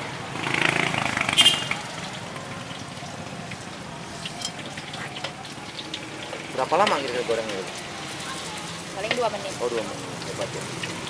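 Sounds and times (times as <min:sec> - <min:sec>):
fish cakes frying in oil: 0:00.0 - 0:11.0.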